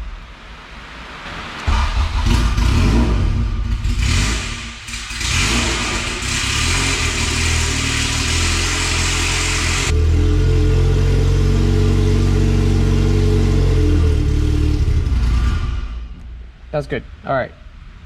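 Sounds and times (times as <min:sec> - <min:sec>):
car engine starting and running: 0:01.6 - 0:16.6.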